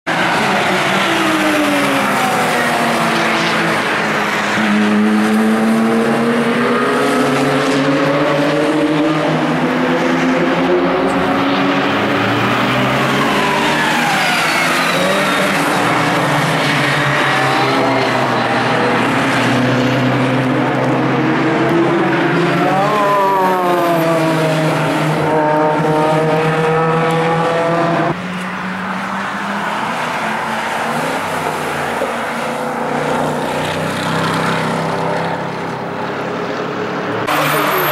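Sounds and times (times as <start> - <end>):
race car engines passing by: 0.1 - 37.9.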